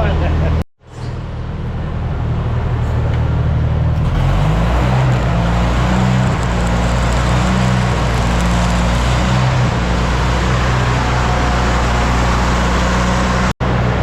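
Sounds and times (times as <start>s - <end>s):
engine running: 1.5s - 14.0s.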